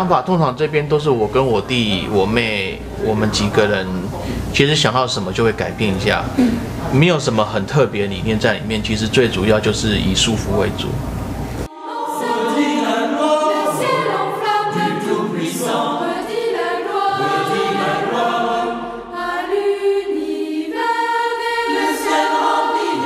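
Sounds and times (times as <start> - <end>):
voices singing in harmony: 1.0 - 10.6, 11.6 - 23.0.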